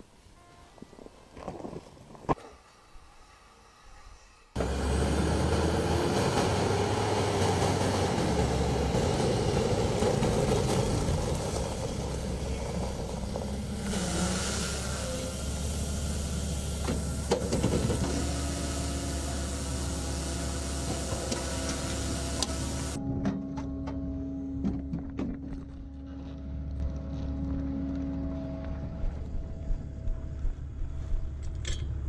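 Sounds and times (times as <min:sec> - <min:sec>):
vehicle engine rumbling: 0:04.6 - 0:32.0.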